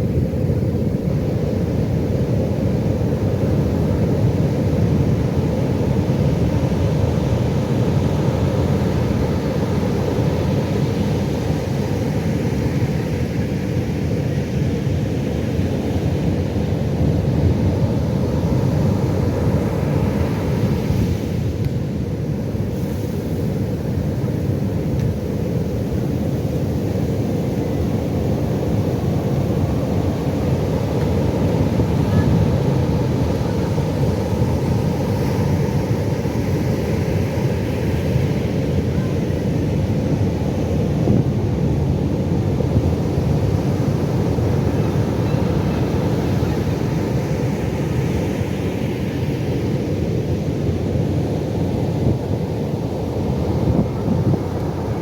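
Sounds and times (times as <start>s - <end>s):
ocean waves rumbling: 0.0s - 55.0s
wind on microphone: 0.0s - 55.0s.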